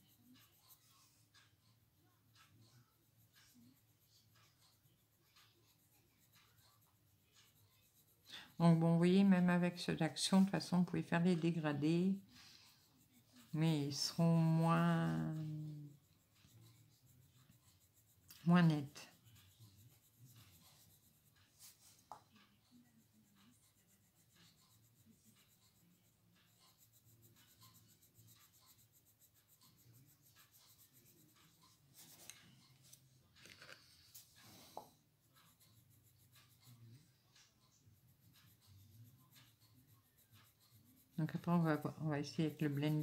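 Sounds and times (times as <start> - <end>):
pencil scratching on paper: 0.0 - 43.0.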